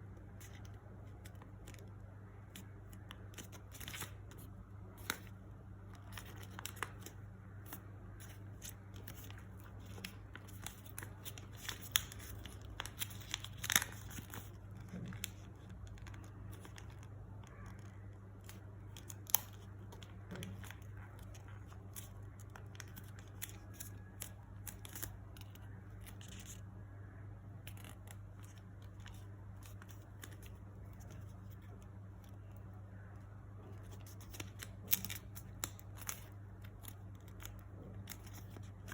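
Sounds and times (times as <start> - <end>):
steady low hum: 0.0 - 38.9
paper rustling and crinkling: 0.4 - 26.7, 33.6 - 38.9.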